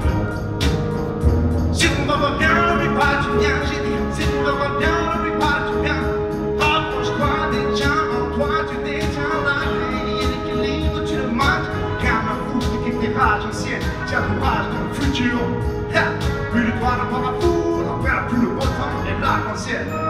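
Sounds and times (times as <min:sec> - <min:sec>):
concert band playing: 0:00.0 - 0:19.3
bass guitar: 0:00.0 - 0:20.0
hip-hop beat: 0:00.0 - 0:20.0
man rapping into a microphone: 0:01.7 - 0:20.0.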